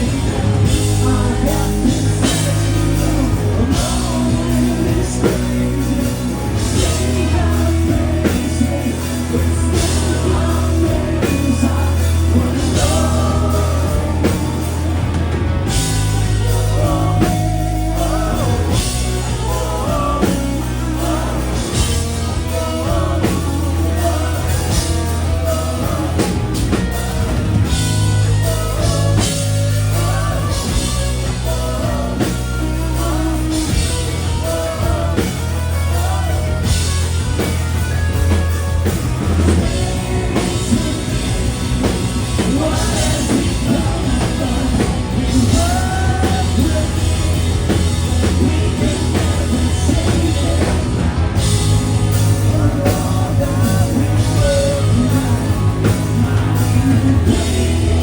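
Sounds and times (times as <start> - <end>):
rock song with vocals: 0.0 - 58.0.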